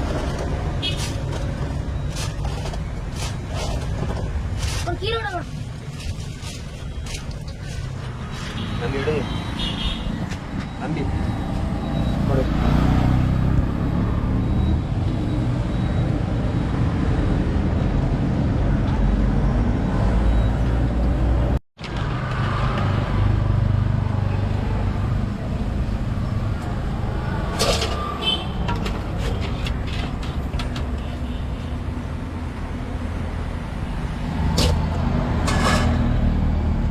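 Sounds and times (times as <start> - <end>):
rumble of passing vehicles: 0.0 - 36.9.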